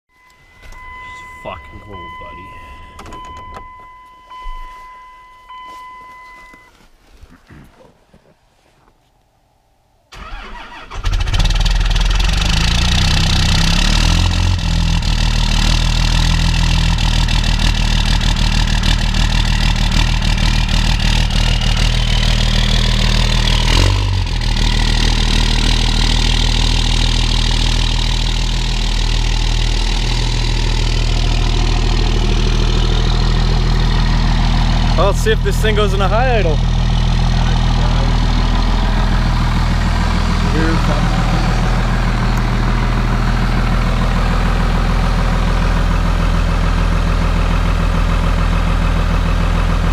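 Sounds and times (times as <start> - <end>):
diesel engine idling: 0.2 - 4.3, 10.2 - 49.9.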